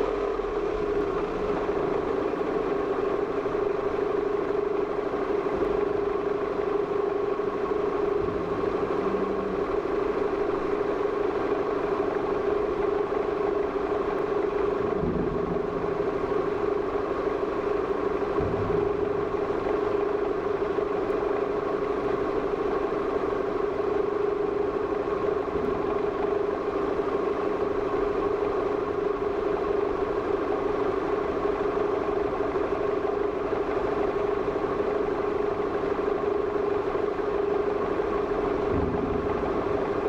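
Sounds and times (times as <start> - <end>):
mechanical hum: 0.7 - 40.0.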